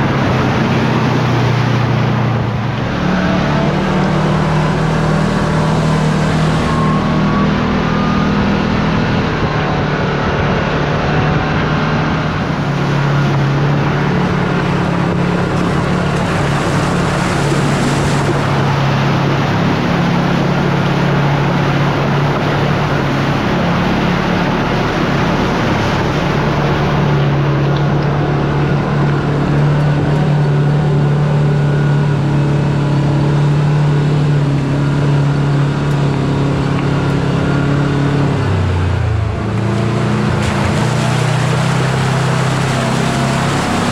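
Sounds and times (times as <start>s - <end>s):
utility vehicle engine droning: 0.0s - 43.9s.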